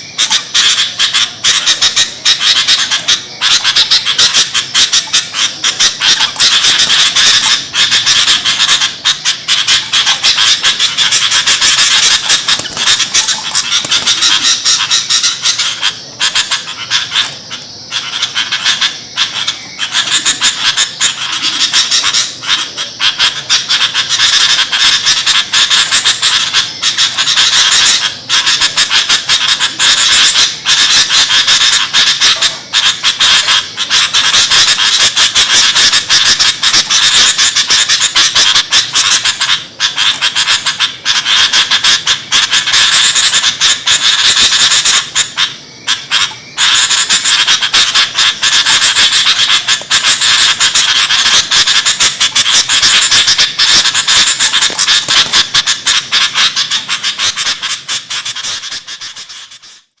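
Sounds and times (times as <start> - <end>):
birds chattering and calling: 0.0 - 60.0.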